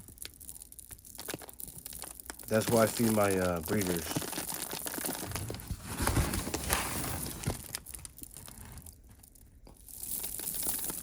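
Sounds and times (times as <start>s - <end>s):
grain rustling and rattling in a bag: 0.0s - 11.0s.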